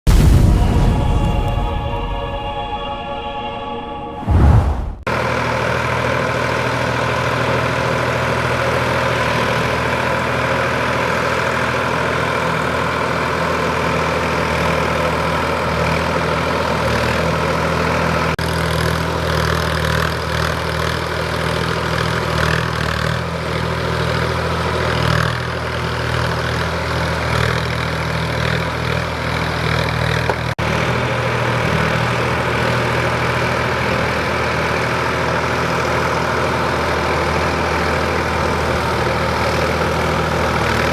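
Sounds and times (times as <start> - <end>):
tractor diesel engine running: 0.1 - 40.9.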